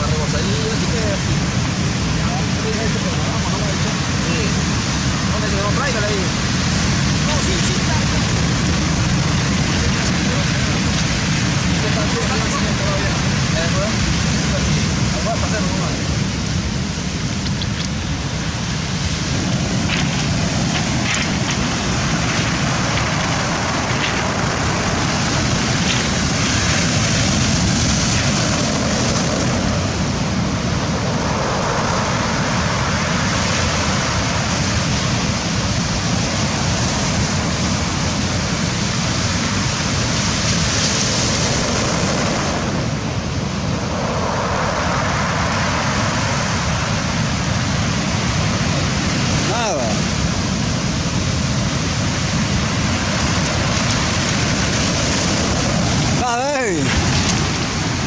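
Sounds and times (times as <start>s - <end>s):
sea surf breaking: 0.0s - 58.0s
wind: 0.0s - 58.0s.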